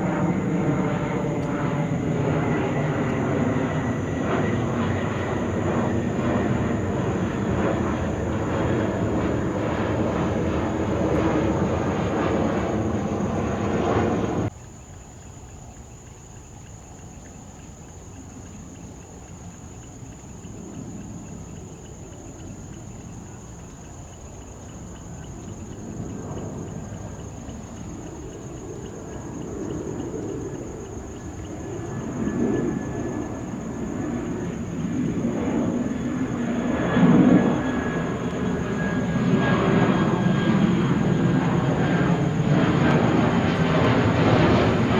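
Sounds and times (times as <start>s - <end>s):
jet airliner engine: 0.0s - 14.5s, 17.8s - 44.9s.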